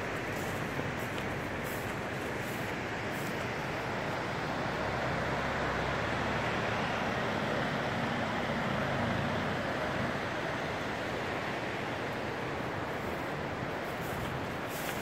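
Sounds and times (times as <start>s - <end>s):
mountain river rushing: 0.0s - 15.0s.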